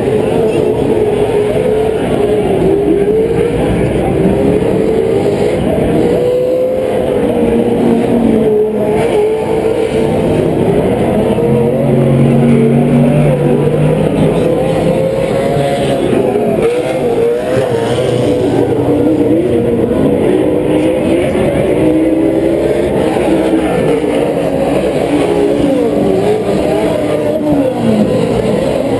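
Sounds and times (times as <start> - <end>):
off-road truck engines revving: 0.0 - 28.9.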